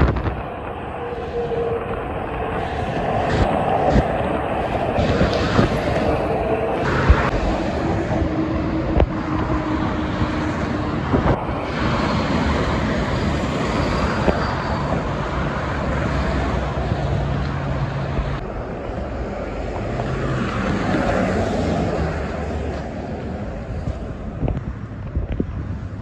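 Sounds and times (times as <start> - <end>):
heavy truck engines droning: 0.0 - 26.0
highway traffic rushing: 0.0 - 26.0
street traffic: 0.0 - 26.0.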